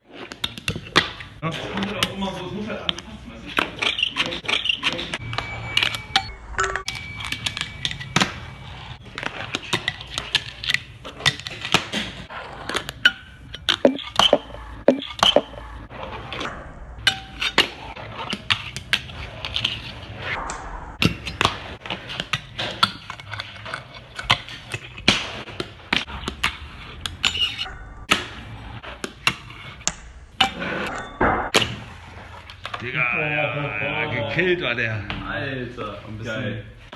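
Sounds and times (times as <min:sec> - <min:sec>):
fingerboard wheels rolling on concrete: 0:00.0 - 0:05.8, 0:07.3 - 0:14.3, 0:15.2 - 0:31.0, 0:31.6 - 0:36.9.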